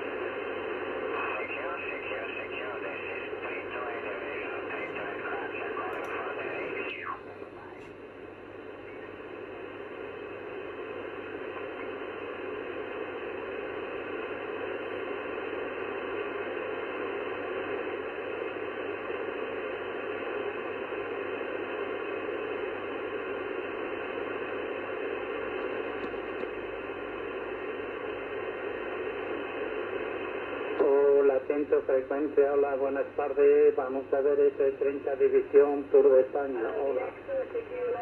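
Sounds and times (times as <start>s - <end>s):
faint low hum: 0.0s - 38.0s
radio band noise hiss: 0.0s - 38.0s.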